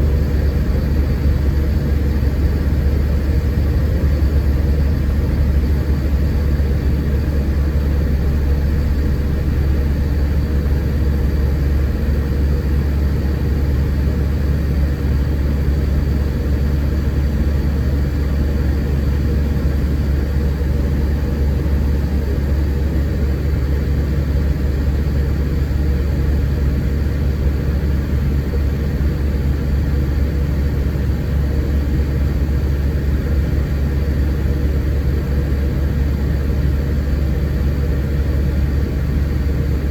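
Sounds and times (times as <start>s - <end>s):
bus diesel engine and road noise: 0.0s - 24.9s, 27.7s - 39.9s.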